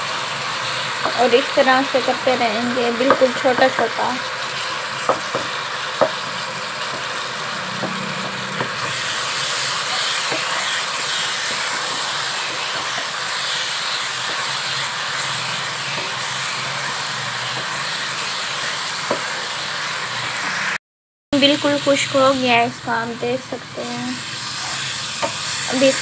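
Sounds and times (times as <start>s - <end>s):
chicken sizzling in a pan: 0.0s - 20.8s, 21.4s - 26.0s.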